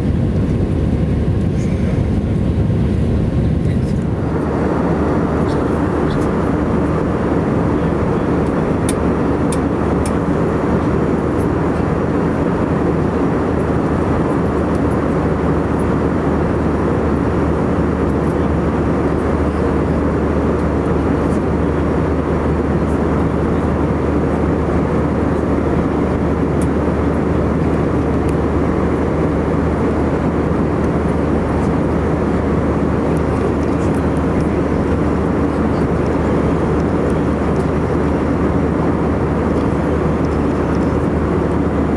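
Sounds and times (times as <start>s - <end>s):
airplane cabin engine drone: 0.0s - 41.9s.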